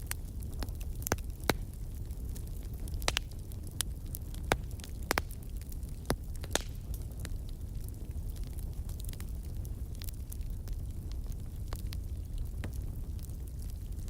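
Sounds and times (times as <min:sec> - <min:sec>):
low rumble of burning: 0:00.0 - 0:14.0
wood fire crackling: 0:00.0 - 0:14.0.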